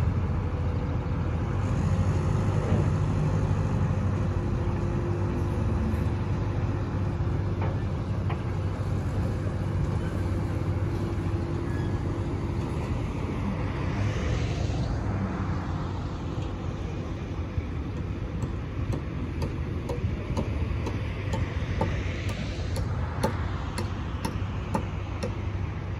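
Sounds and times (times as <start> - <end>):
barge engine rumble: 0.4 - 25.9.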